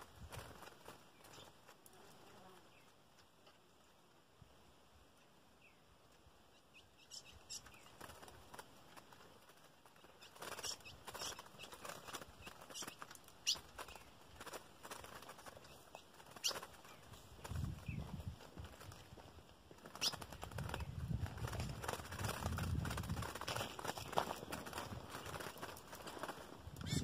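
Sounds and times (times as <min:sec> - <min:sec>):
bird wings fluttering: 0:00.0 - 0:03.0, 0:07.2 - 0:27.0.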